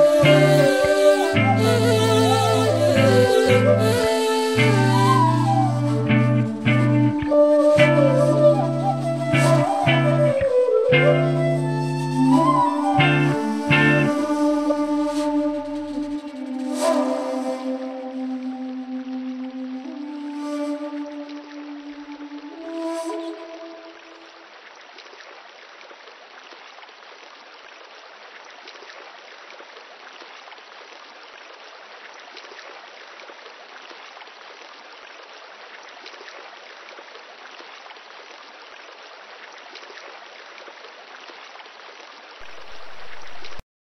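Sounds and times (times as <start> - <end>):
running water: 0.0 - 43.6.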